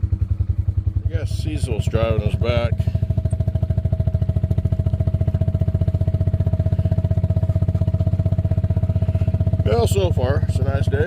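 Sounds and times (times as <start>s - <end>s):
farm vehicle engine running: 0.0s - 11.0s.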